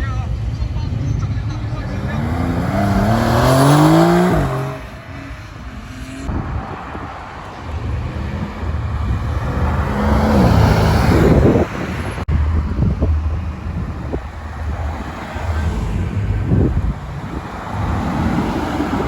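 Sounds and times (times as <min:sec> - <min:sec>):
car engines accelerating: 0:00.0 - 0:19.0.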